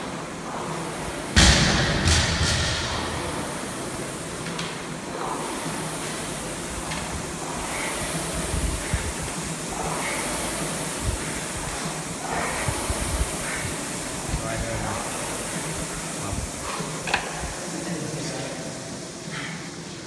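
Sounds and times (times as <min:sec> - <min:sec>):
rowing machine flywheel whooshing: 0:00.0 - 0:19.9.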